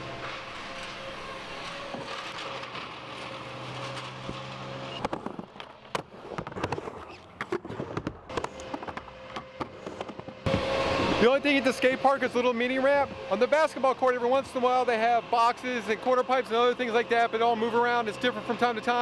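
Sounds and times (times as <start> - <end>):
steady hum: 0.0 - 6.6, 8.2 - 19.0.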